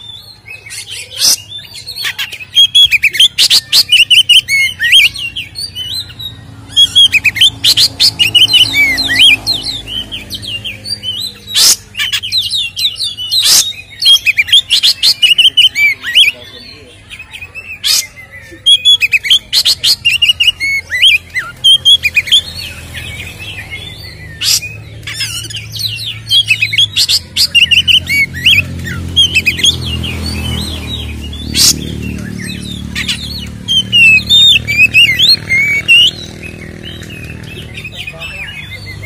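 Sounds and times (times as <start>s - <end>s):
songbird whistling and chattering: 0.0s - 39.0s.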